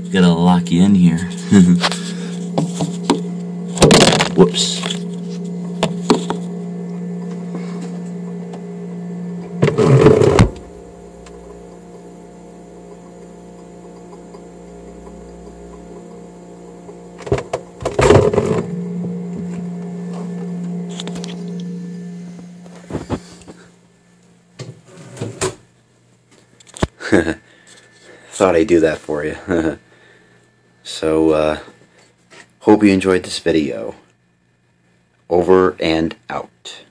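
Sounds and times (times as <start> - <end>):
fridge compressor humming: 0.0 - 34.5.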